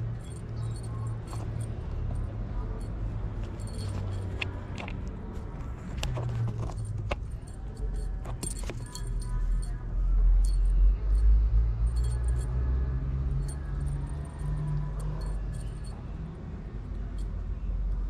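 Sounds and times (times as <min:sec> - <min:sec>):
metallic toy jingling: 0:00.0 - 0:04.8, 0:06.2 - 0:16.0.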